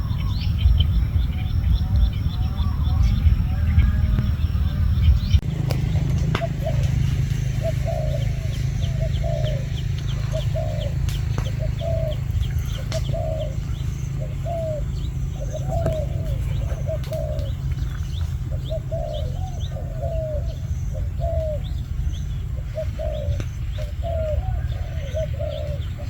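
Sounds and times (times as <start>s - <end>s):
dove cooing: 0.0s - 26.0s
small birds chirping: 0.0s - 26.0s
steady low rumble: 0.0s - 26.0s.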